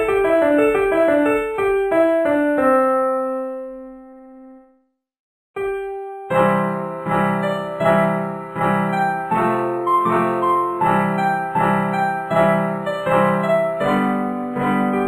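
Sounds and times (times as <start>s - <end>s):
electric piano music: 0.0s - 4.7s, 5.6s - 15.0s.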